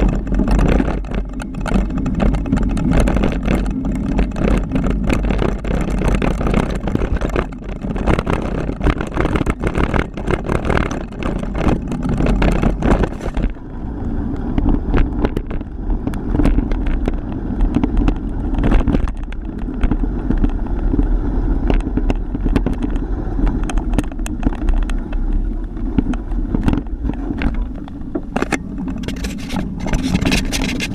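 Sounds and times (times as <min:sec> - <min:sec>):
bike rattling and knocking: 0:00.0 - 0:30.9
wind rushing over microphone: 0:00.0 - 0:30.9.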